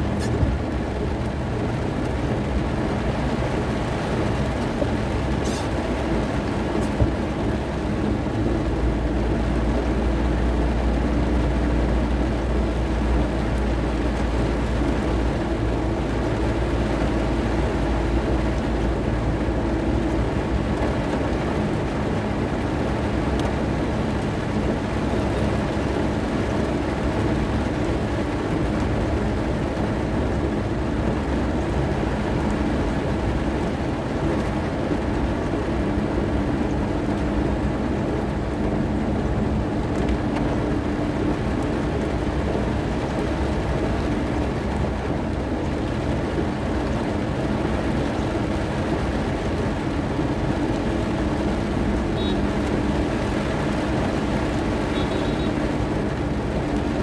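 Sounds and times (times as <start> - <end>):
car tyres rumbling on flooded road: 0.0 - 57.0
rain hissing on windscreen: 0.0 - 57.0
windscreen wipers sweeping: 0.0 - 57.0.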